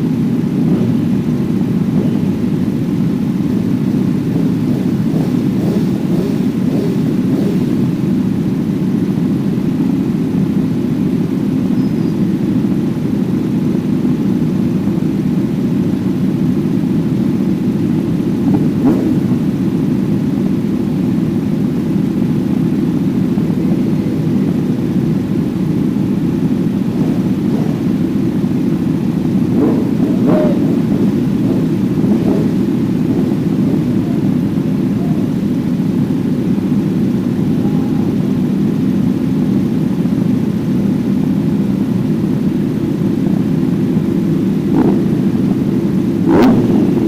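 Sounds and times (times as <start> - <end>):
motorcycle engine roar: 0.0 - 47.0.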